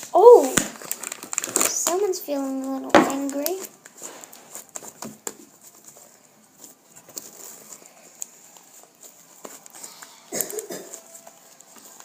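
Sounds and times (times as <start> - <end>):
slime squishing by hand: 0.0 - 12.0.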